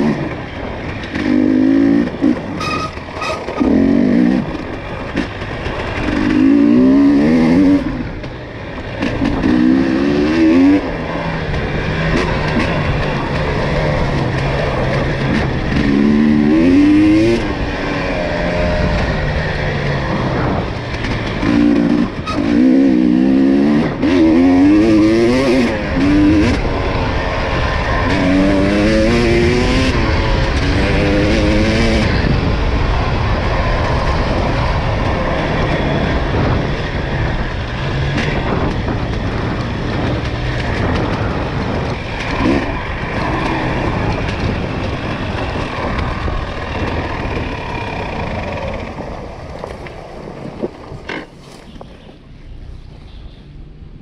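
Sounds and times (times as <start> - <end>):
atv engine revving: 0.0 - 52.1.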